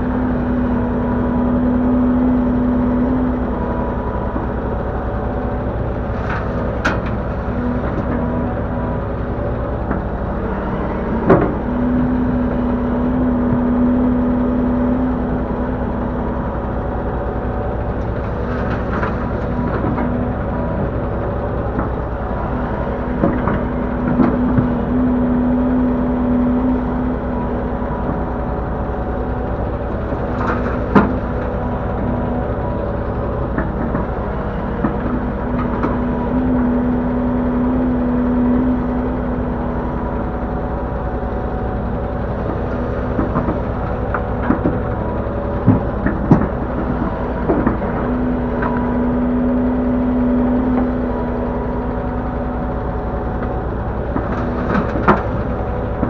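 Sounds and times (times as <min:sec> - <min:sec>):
excavator diesel engine running: 0:00.0 - 0:56.0
hydraulic hum: 0:00.0 - 0:56.0.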